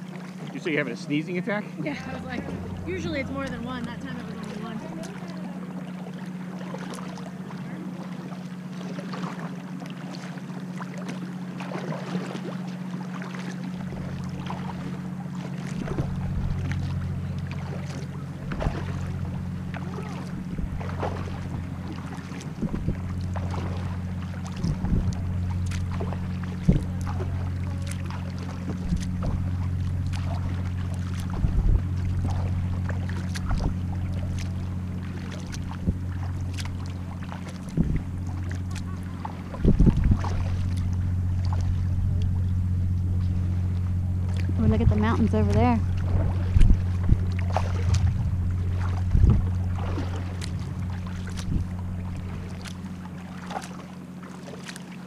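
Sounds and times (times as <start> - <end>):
low hum: 0.0 - 55.0
paddle dipping and dripping: 0.0 - 55.0
small splashes and clicks: 2.2 - 55.0.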